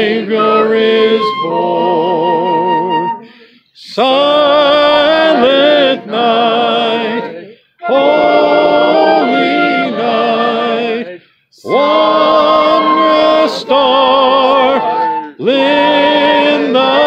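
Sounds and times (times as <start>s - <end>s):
choir singing unaccompanied: 0.0s - 3.1s, 3.8s - 17.0s.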